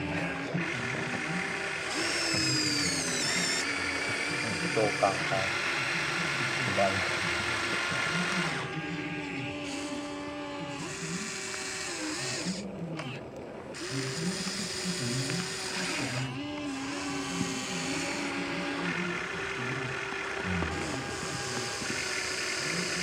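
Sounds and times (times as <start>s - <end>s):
toy excavator motors whining: 0.0s - 23.0s.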